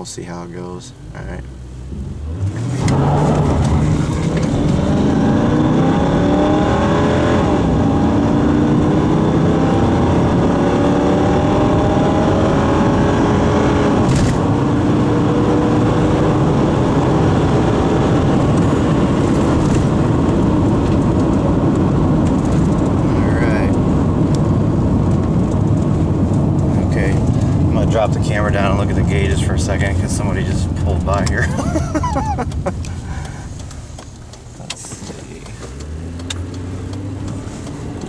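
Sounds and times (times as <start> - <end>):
road noise: 0.0 - 38.0
car engine accelerating: 1.0 - 38.0.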